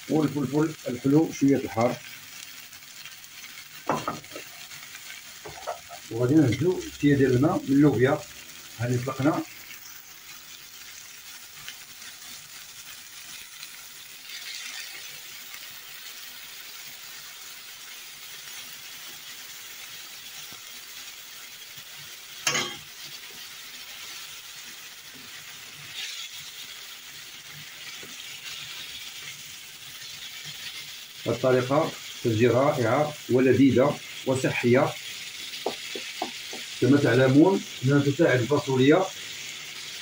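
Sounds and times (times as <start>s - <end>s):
food sizzling in frying pan: 0.0s - 40.0s.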